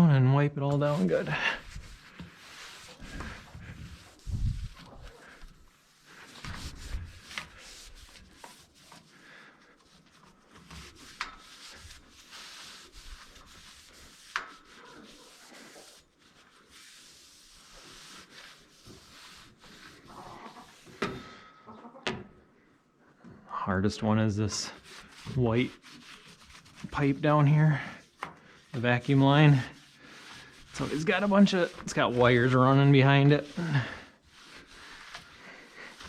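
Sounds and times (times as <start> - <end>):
wet cloth scrubbing pipe: 0.7 - 21.0, 24.5 - 36.0.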